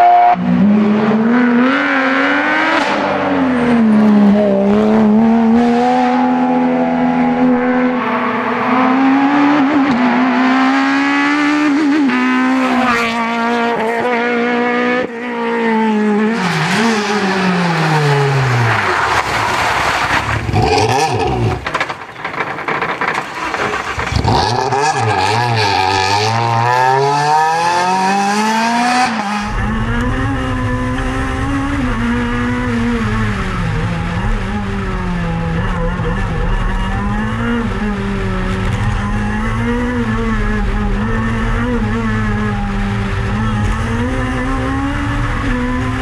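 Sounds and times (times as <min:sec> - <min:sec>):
rally car engines revving: 0:00.0 - 0:46.0
wind and road noise rumble: 0:00.0 - 0:46.0.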